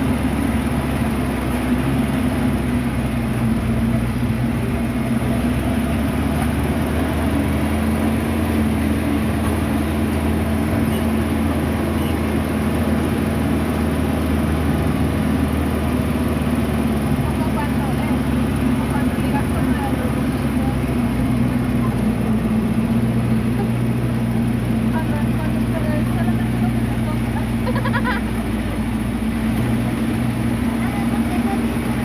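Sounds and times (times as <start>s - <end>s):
vehicle engine hum: 0.0s - 32.0s.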